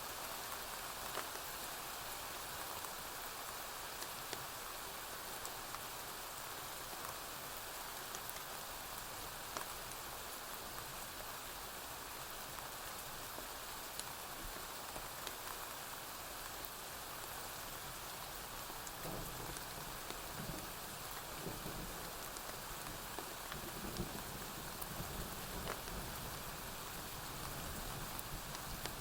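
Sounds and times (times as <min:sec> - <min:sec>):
rain on a porch roof: 0:00.0 - 0:29.0.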